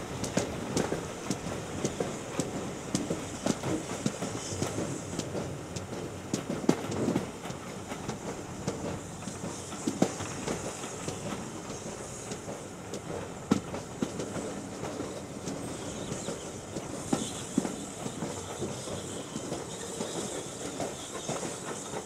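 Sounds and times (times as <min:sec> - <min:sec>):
rumble of train coaches: 0:00.0 - 0:22.0.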